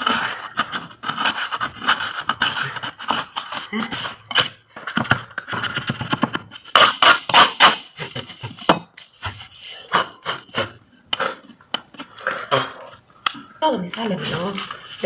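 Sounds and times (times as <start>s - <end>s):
metal scraper scraping paint: 0.0s - 4.6s, 5.4s - 13.0s, 14.0s - 15.0s.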